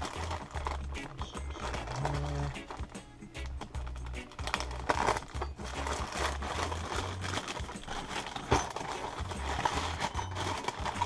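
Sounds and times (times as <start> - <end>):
background music with bass: 0.0 - 11.0
plastic packaging crinkling: 0.0 - 11.0.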